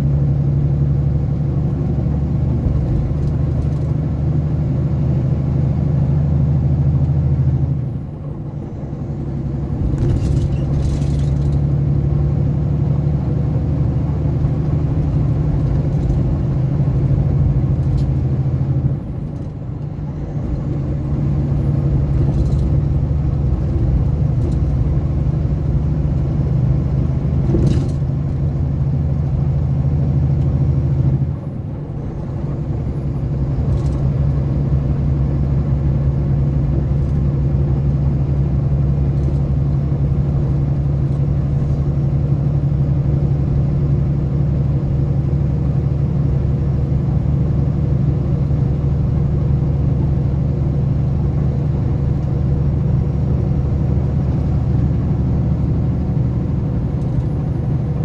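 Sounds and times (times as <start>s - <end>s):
vehicle engine and road drone: 0.0s - 58.0s.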